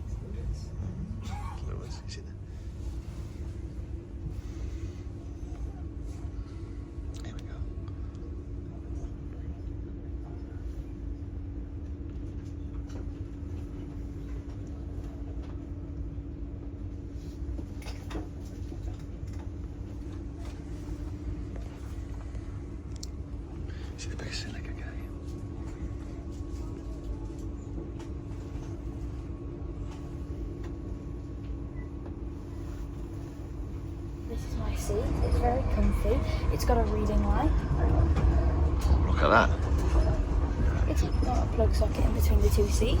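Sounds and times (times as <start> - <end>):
constant hum: 0.0 - 43.0
train carriage rumble: 0.0 - 43.0.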